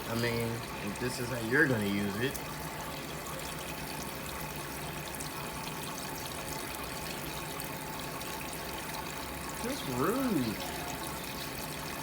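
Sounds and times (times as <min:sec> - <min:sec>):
water fountain trickling: 0:00.0 - 0:12.0.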